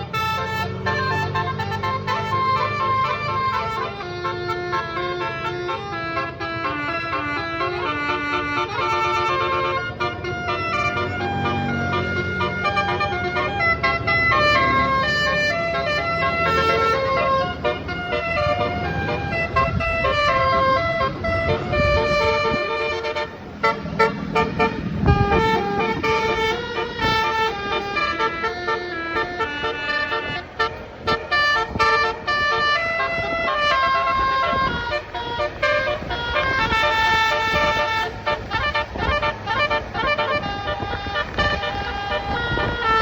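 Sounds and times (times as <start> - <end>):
truck musical horn tune: 0.0 - 43.0.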